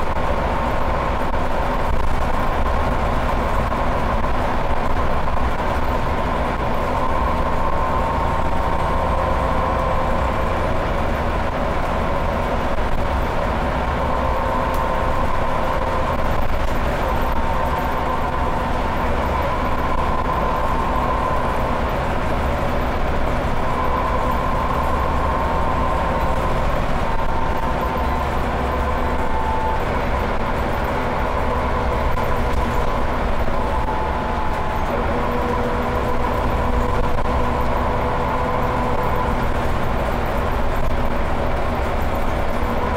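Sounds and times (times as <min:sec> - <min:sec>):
bus engine drone: 0:00.0 - 0:42.9
high whine: 0:00.0 - 0:42.9
road rumble: 0:00.0 - 0:42.9.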